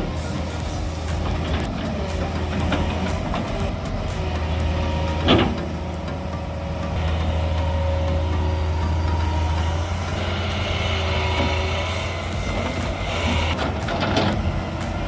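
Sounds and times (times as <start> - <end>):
truck diesel engine humming: 0.0 - 15.0.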